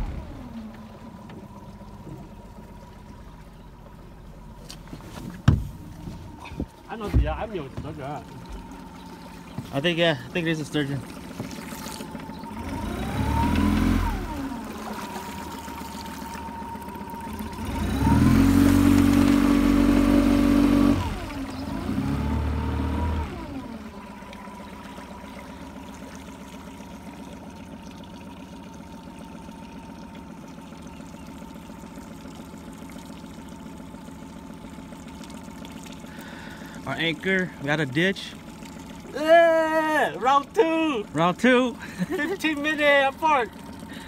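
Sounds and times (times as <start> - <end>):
outboard motor revving: 0.0 - 44.0.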